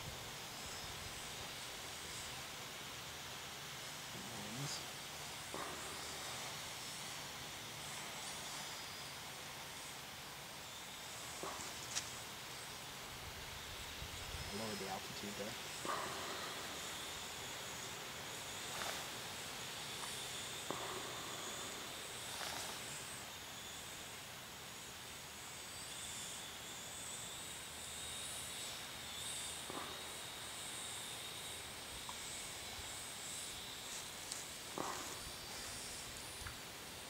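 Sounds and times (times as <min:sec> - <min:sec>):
outdoor hiss: 0:00.0 - 0:37.0.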